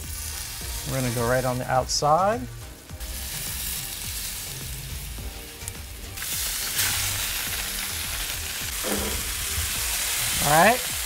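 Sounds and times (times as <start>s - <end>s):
fish sizzling in a skillet: 0.0s - 11.0s.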